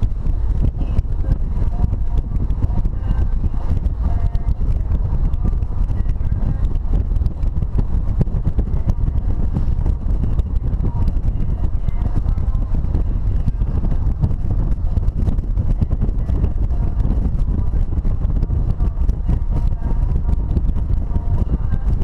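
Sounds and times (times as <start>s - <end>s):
car rumble and road noise: 0.0s - 22.0s
wind buffeting microphone: 0.0s - 22.0s.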